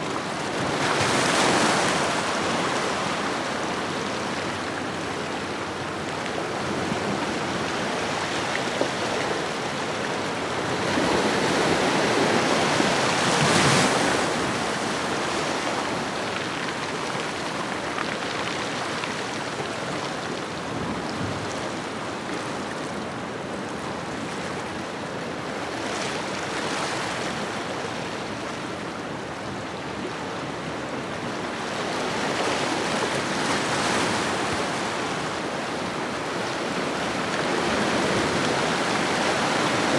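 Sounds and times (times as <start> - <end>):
ocean waves breaking on shore: 0.0 - 22.7, 25.3 - 39.9.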